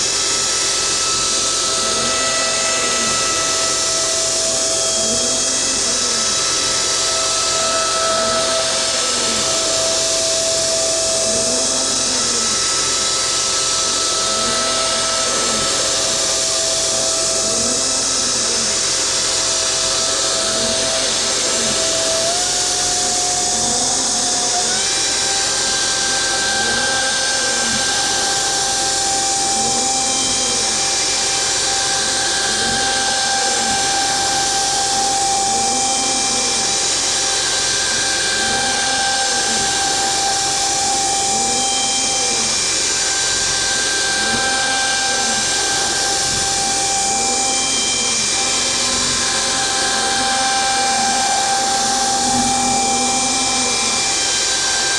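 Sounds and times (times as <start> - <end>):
motor whine rising and falling: 0.0 - 54.9
router spindle running: 0.0 - 54.9.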